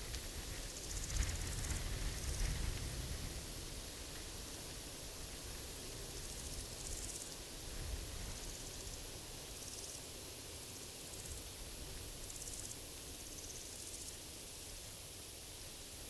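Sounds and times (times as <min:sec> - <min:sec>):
crickets buzzing trills: 0:00.0 - 0:16.0
forest background hiss: 0:00.0 - 0:16.0.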